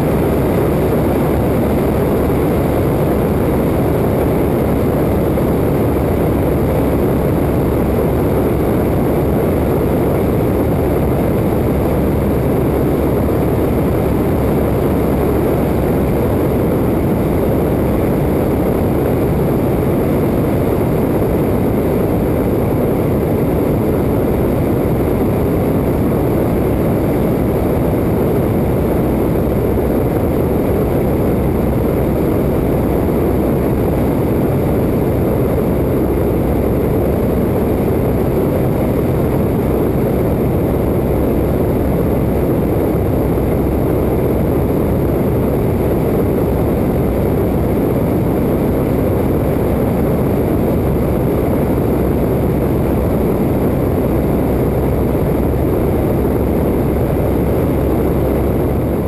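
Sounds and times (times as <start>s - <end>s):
propeller plane engine: 0.0s - 59.0s.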